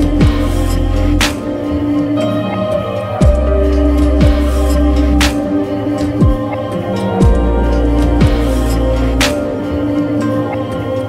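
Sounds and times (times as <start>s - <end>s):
sustained tone music: 0.0s - 11.0s.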